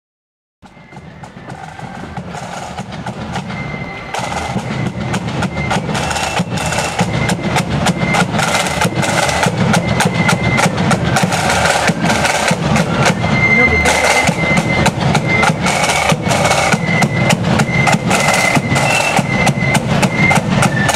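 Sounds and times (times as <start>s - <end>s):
marching drums beating: 0.6s - 20.9s.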